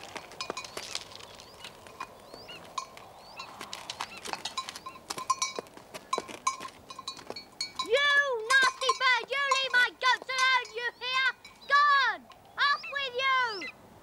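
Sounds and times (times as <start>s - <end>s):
goat bells clanking: 0.0s - 11.8s.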